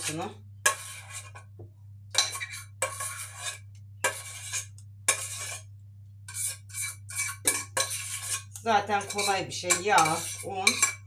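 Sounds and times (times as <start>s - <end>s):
metal spoon scraping saucepan: 0.0s - 1.5s, 2.1s - 5.7s, 6.3s - 11.0s.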